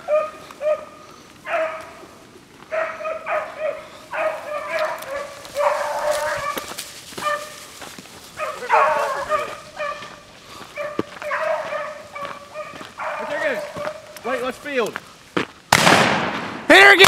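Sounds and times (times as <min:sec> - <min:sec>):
dogs baying: 0:00.0 - 0:14.3.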